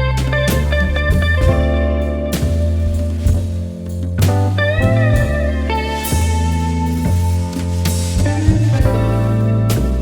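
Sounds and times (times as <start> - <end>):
bass: 0.0 - 10.0
guitar: 0.0 - 10.0
light drum beat: 0.0 - 10.0.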